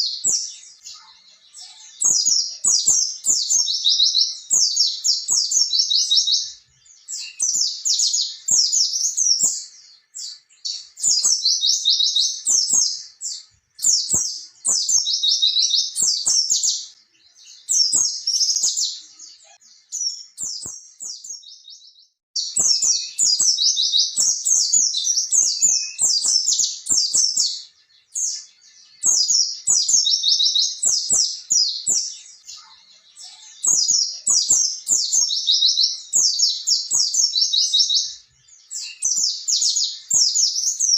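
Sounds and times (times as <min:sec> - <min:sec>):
bird high twittering song: 0:00.0 - 0:40.9.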